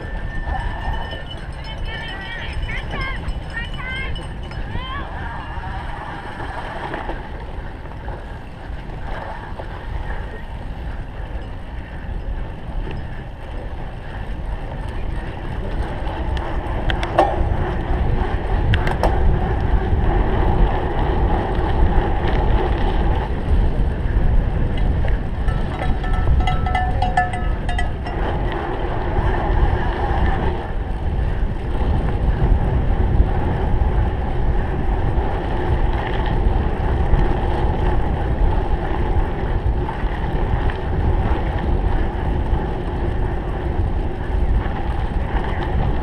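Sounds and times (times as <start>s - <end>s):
bike tyre and drivetrain noise: 0.0s - 46.0s
wind rushing over microphone: 0.0s - 46.0s.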